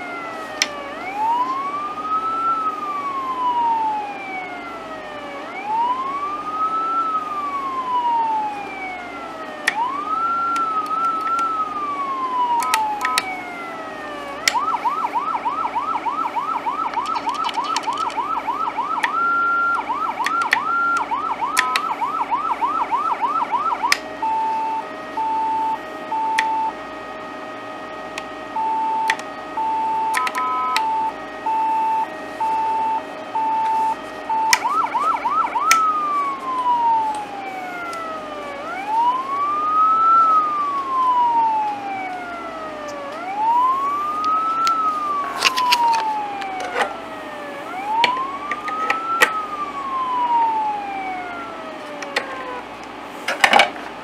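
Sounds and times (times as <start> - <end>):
electronic siren yelp and wail: 0.0 - 53.6.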